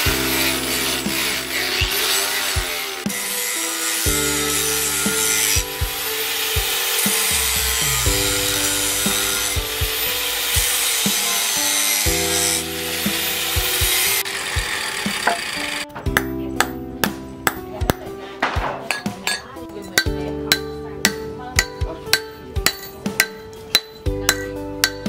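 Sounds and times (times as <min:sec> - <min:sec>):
angle grinder cutting metal: 0:00.0 - 0:16.8, 0:18.9 - 0:25.0.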